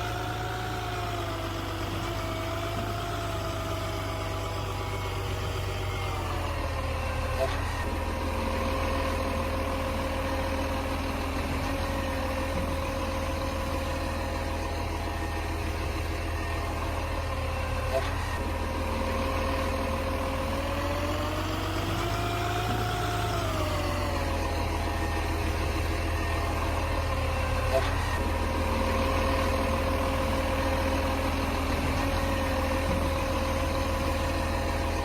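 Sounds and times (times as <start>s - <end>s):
diesel engine idling and revving: 0.0s - 35.0s.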